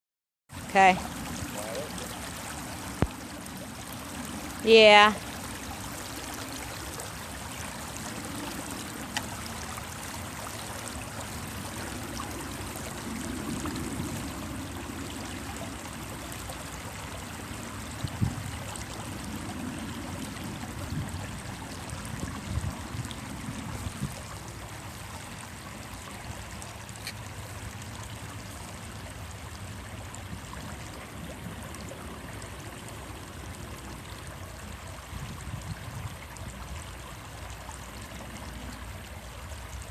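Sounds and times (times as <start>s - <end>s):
low splashes: 0.5s - 39.9s
stream water over rocks: 0.5s - 39.9s.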